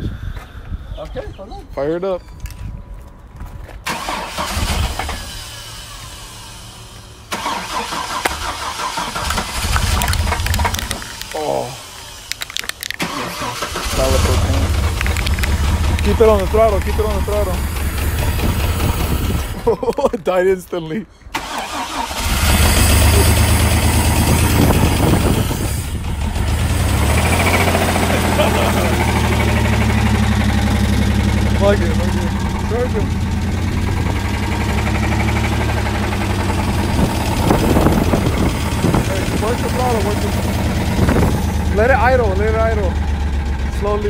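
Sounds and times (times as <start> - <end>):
starter cranking engine: 3.9 - 5.4, 7.3 - 19.6, 21.4 - 44.0
pickup engine running: 3.9 - 19.7, 21.4 - 44.0.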